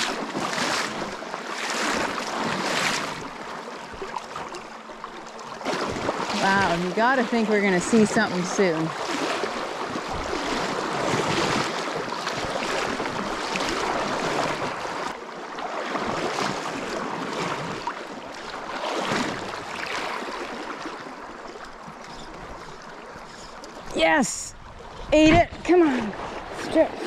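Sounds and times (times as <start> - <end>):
water splashes and gurgles: 0.0 - 27.0.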